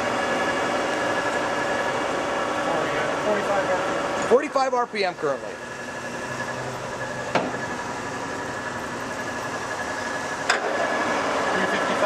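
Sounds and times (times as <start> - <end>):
lathe humming with whine: 0.0 - 12.0.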